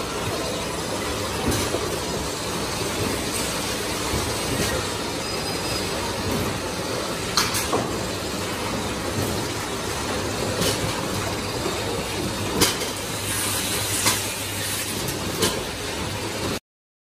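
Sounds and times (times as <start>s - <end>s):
machinery hum and hiss: 0.0s - 16.6s.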